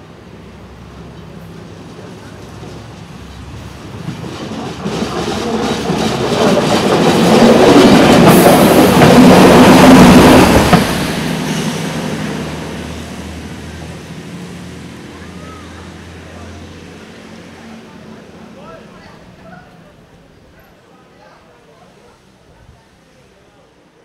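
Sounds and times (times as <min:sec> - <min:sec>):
railbus engine passing by: 0:00.0 - 0:24.0
train wheels on rails: 0:00.2 - 0:20.9.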